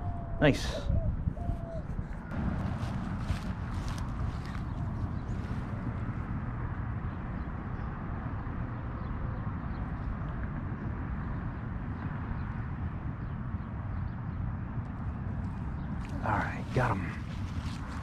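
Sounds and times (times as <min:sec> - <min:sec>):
low outdoor rumble: 0:02.0 - 0:18.0.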